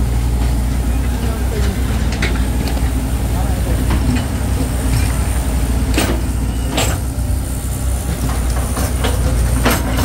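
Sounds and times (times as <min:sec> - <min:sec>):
heavy engine running: 0:00.0 - 0:10.0.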